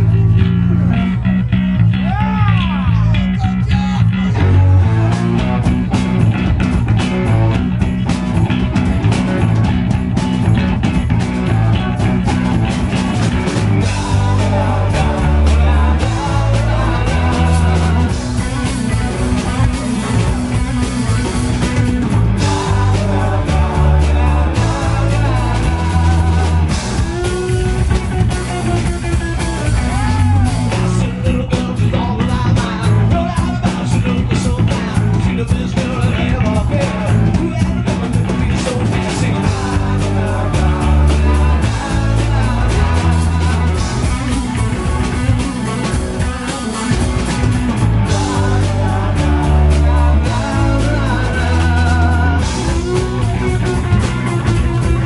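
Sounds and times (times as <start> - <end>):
bass guitar: 0.0 - 55.0
distorted electric guitars: 0.0 - 55.0
drum kit: 0.0 - 55.0
person singing lead vocal: 2.0 - 5.7, 11.4 - 55.0.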